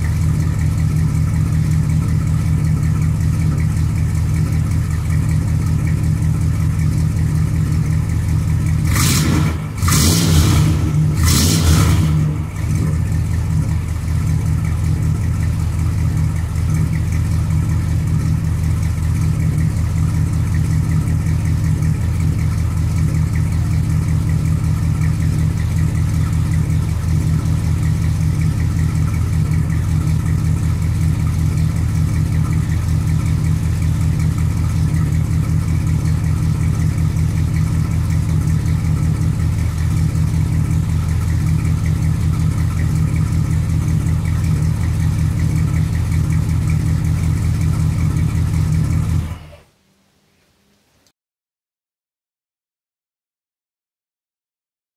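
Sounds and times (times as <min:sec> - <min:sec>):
car engine idling and revving: 0:00.0 - 0:49.7.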